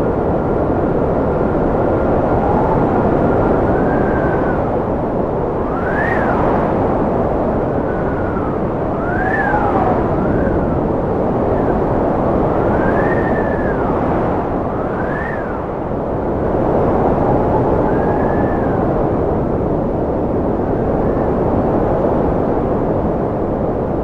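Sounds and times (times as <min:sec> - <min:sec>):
strong wind howling: 0:00.0 - 0:24.0.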